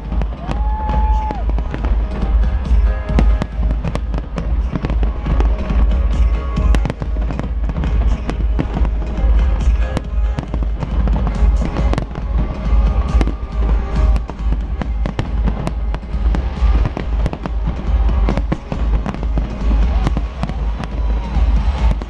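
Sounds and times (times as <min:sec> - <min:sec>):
fireworks bangs and crackles: 0:00.0 - 0:22.0
heavy low rumble: 0:00.0 - 0:22.0
music playing: 0:00.0 - 0:22.0.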